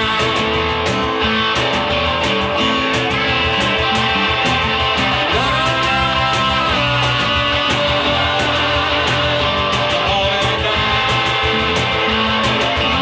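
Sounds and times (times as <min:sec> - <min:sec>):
guitar bending notes: 0:00.0 - 0:13.0
live rock band playing: 0:00.0 - 0:13.0.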